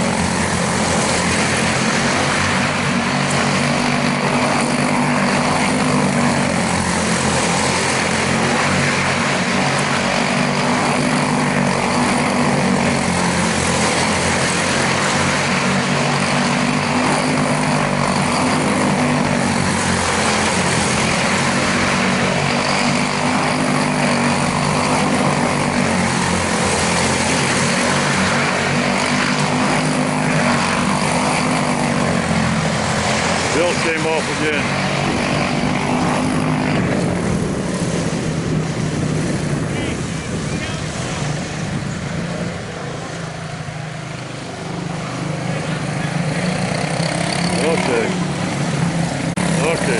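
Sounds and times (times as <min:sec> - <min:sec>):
race car engines droning: 0:00.0 - 0:49.9.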